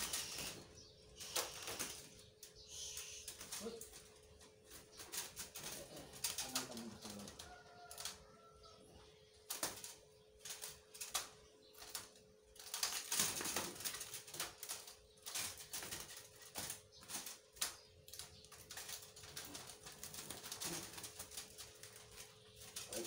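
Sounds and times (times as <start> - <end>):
cage wires rattling: 0.0 - 23.0.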